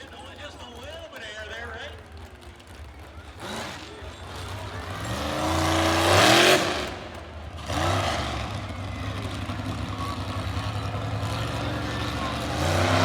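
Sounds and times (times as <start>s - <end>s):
vehicle engine revving: 2.1s - 13.0s.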